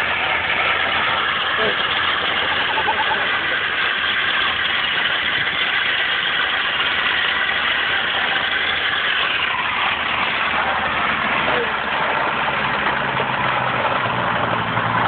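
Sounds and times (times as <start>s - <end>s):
car engine at low revs: 0.0s - 15.0s
tyre and road noise: 0.0s - 15.0s.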